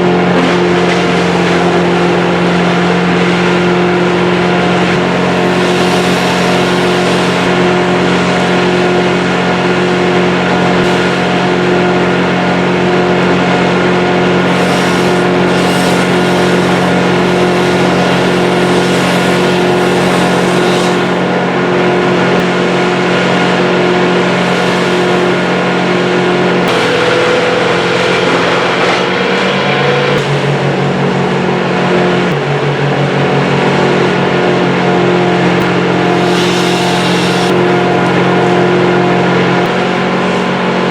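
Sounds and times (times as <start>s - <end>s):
large engine running at high speed: 0.0s - 40.9s.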